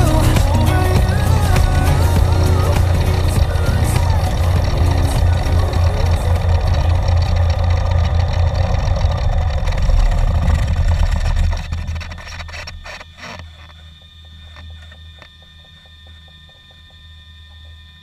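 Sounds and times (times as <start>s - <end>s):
airplane piston engine idling: 0.0s - 18.0s.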